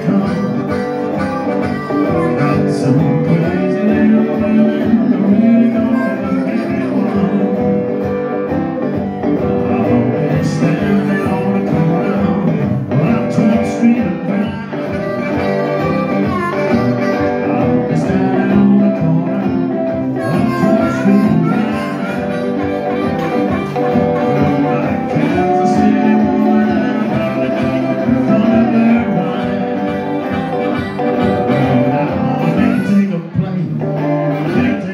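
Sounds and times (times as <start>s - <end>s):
acoustic guitar strumming: 0.0s - 34.9s
electric guitar: 0.0s - 34.9s
harmonica: 0.0s - 34.9s.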